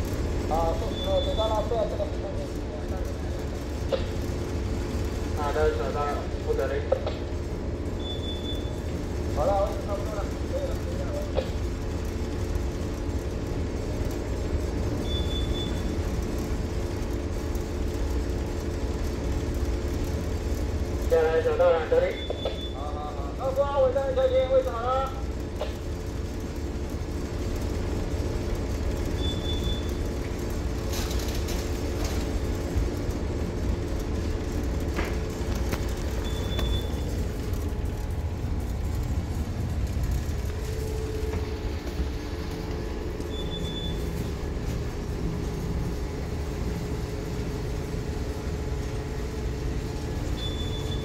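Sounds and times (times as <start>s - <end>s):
ship engine rumble: 0.0s - 51.0s.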